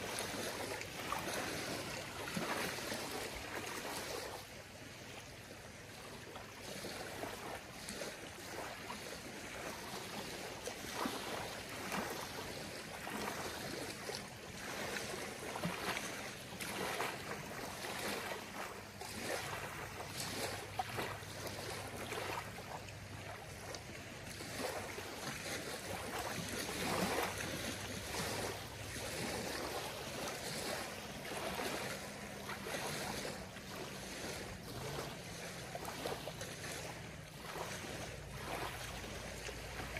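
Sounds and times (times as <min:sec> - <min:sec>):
waves lapping on gravel shore: 0:00.0 - 0:39.9.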